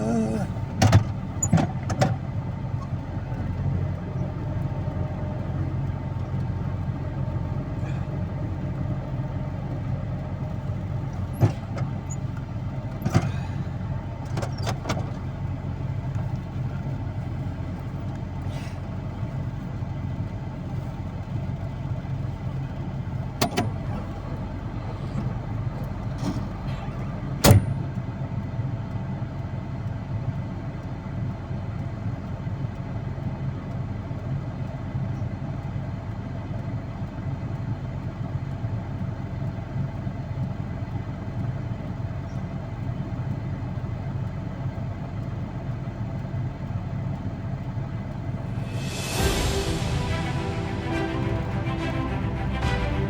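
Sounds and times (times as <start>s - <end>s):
vehicle engine droning: 0.0s - 53.0s.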